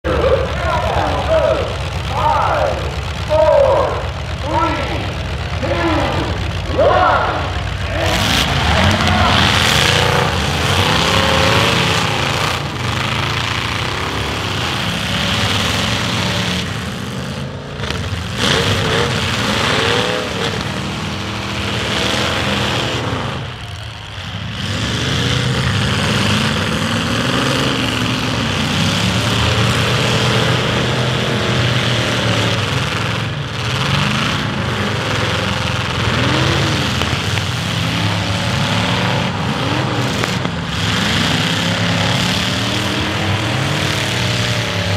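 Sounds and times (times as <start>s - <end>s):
car engines revving hard: 0.0s - 44.9s.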